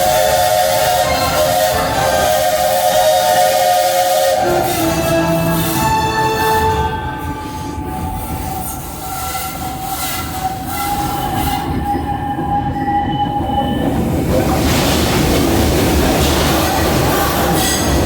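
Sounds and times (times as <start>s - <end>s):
steam locomotive rumbling: 0.0s - 18.0s.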